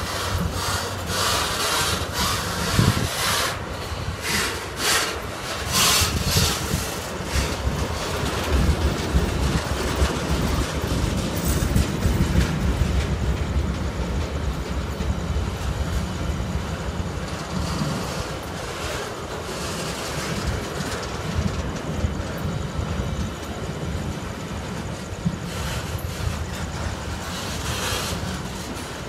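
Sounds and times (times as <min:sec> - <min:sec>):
freight train rolling past: 0:00.0 - 0:29.0.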